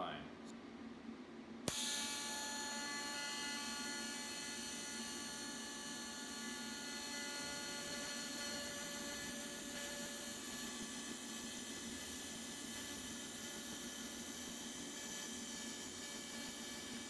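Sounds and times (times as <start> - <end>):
welding arc hissing: 1.7 - 17.0.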